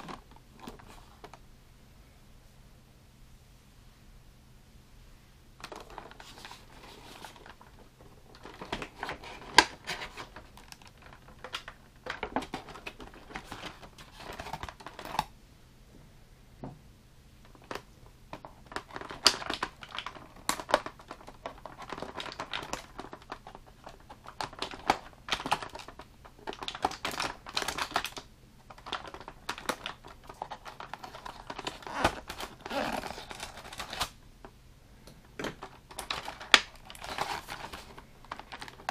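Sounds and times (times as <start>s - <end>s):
packaging clicks and crinkles: 0.0s - 1.4s, 5.6s - 15.3s, 17.5s - 34.2s, 35.4s - 38.9s.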